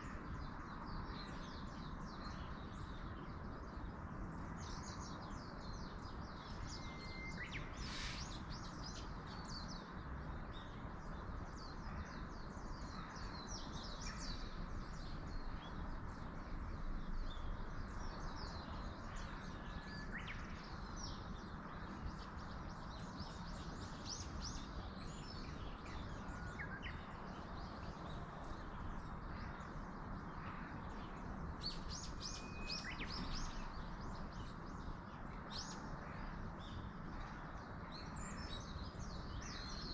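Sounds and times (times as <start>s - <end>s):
songbirds chirping: 0.0s - 39.9s
wind in trees: 0.0s - 39.9s.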